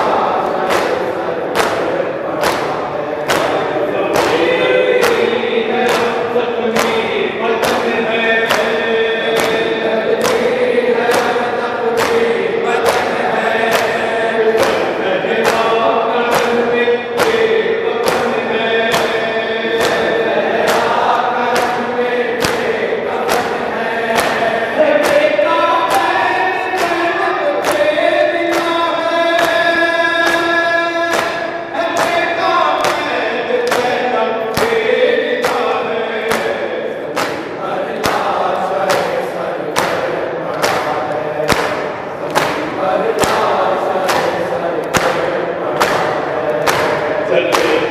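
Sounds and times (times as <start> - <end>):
hands striking chests: 0.0 - 15.7, 16.3 - 16.6, 17.2 - 28.8, 31.1 - 47.9
men chanting together: 0.0 - 47.9.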